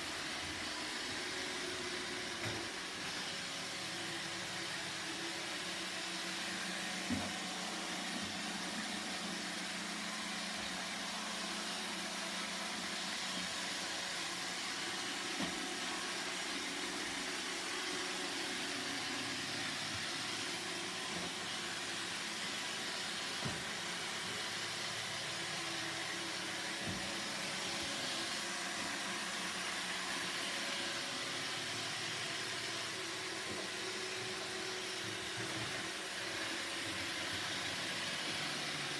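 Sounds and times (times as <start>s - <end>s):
robot vacuum humming: 0.0s - 38.9s.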